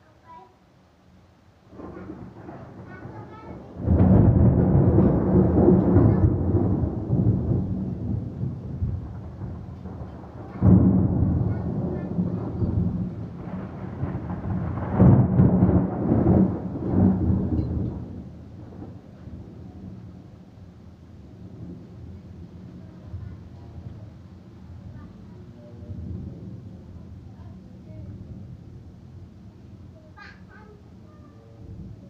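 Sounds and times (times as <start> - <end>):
thunder rumbling: 1.6 - 32.0.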